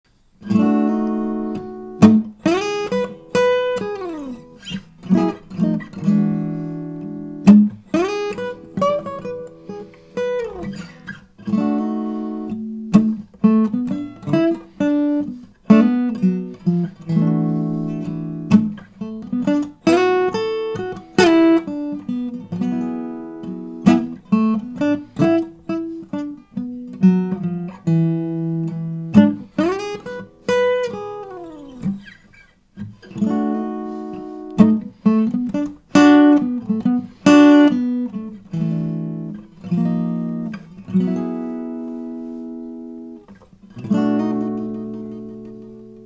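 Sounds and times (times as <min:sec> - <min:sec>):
acoustic guitar: 0:00.1 - 0:46.0.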